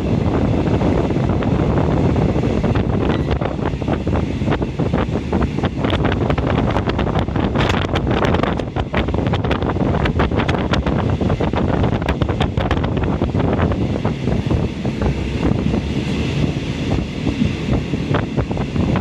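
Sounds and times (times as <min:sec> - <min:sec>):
train car rattles and clicks: 0:00.0 - 0:19.0
train running rumble: 0:00.0 - 0:19.0
wind rush on microphone: 0:00.0 - 0:19.0.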